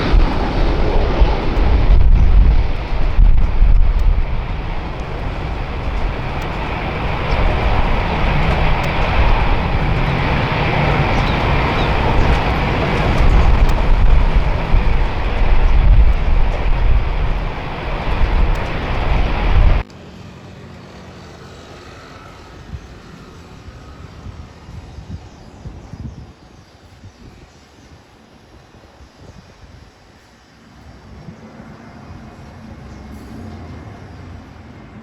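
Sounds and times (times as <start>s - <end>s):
jet airliner roaring: 0.0s - 25.8s, 30.8s - 35.0s.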